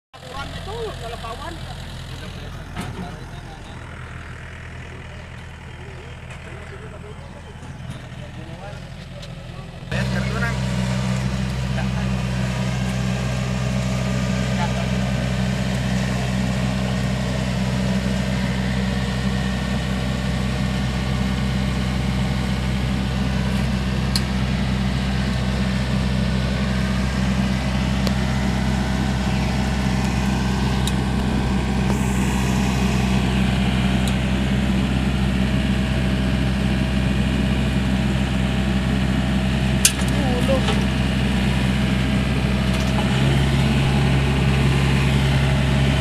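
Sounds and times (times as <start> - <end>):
diesel engine running: 0.1 - 46.0.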